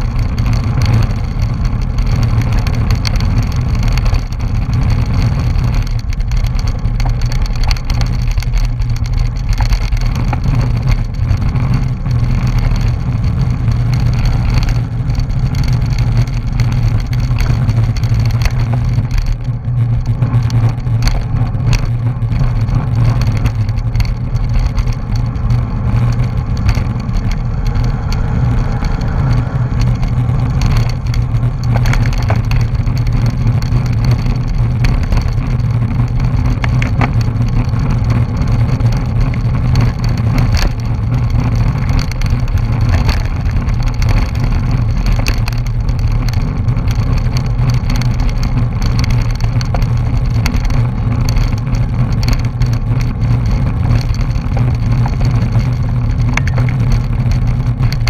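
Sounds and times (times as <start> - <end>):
wind rumbling on microphone: 0.0 - 58.0.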